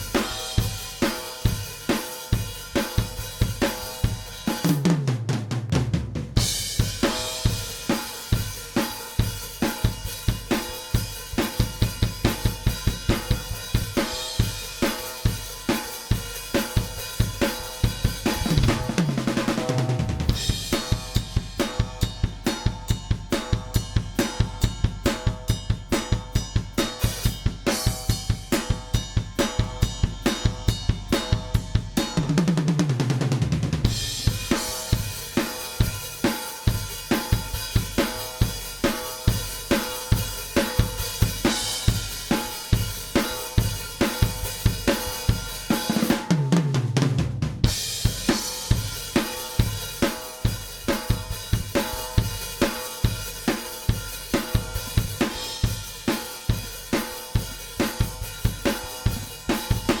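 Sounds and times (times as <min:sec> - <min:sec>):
rock drum kit groove: 0:00.0 - 1:00.0.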